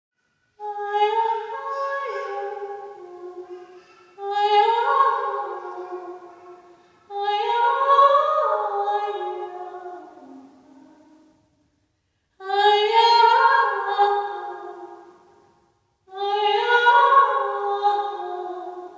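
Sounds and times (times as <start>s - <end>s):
woman singing unaccompanied: 0.6s - 3.6s, 4.2s - 11.2s, 12.4s - 15.1s, 16.1s - 18.9s.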